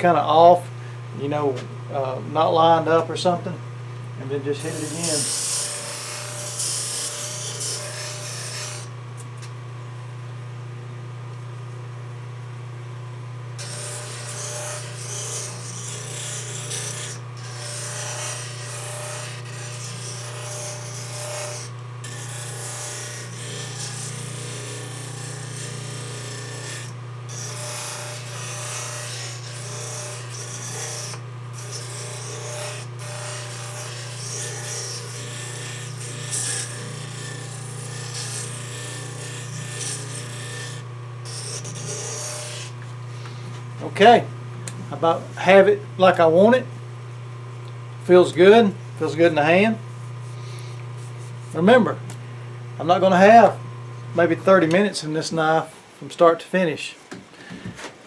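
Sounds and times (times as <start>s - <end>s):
belt sander motor hum: 0.0s - 9.5s, 13.6s - 55.7s.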